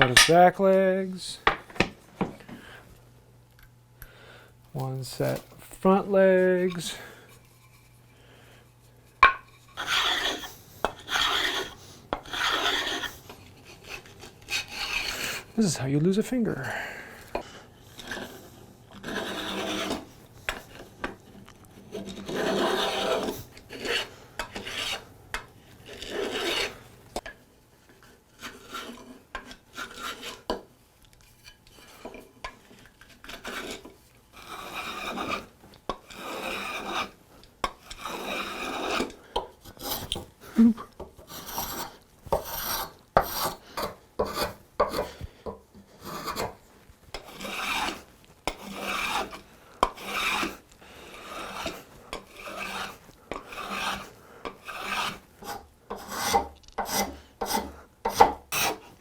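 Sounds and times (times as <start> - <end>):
hand tool scraping wood: 0.0 - 1.9, 4.8 - 15.8, 17.1 - 27.3, 28.0 - 30.7, 31.4 - 59.0.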